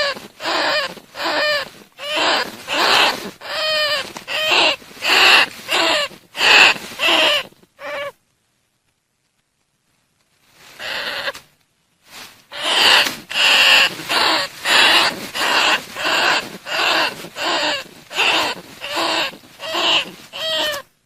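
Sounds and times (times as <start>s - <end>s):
rat calls: 0.0s - 8.2s, 10.8s - 11.4s, 12.5s - 20.9s.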